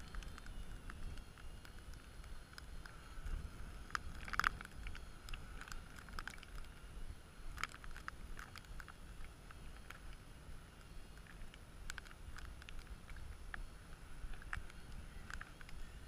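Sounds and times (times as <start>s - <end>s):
drone motors whining: 0.0s - 16.0s
wind rumbling on microphone: 0.0s - 16.0s.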